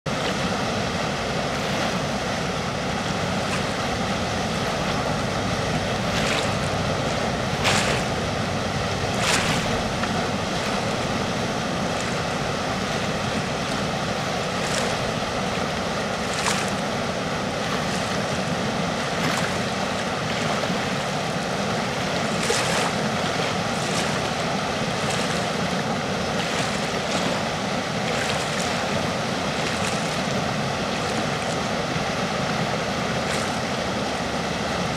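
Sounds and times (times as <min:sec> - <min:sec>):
water rushing through dam: 0:00.1 - 0:34.9.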